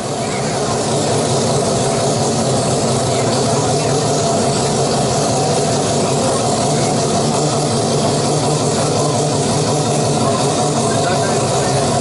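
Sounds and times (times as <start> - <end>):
rotary engine running steadily: 0.0 - 12.0.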